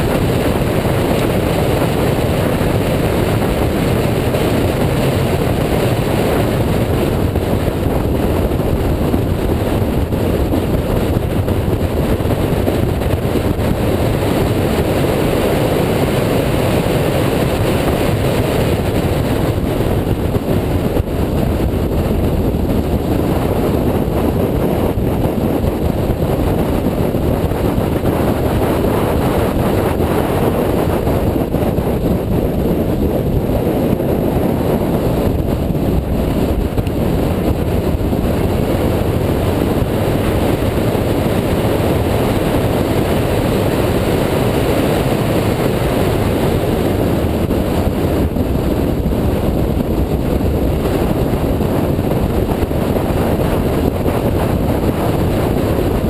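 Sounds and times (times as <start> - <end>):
car engine at speed: 0.0 - 56.0
wind rush on microphone: 0.0 - 56.0.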